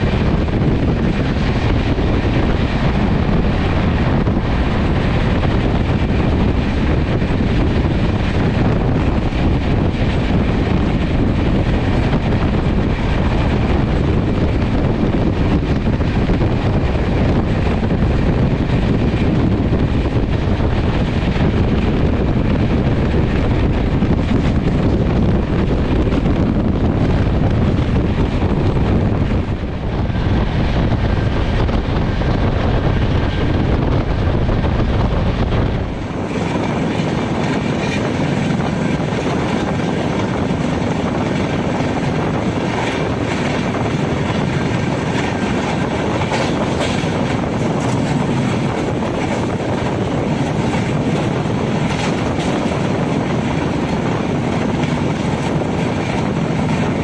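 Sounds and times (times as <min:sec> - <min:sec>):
train coaches on rails: 0:00.0 - 0:57.0.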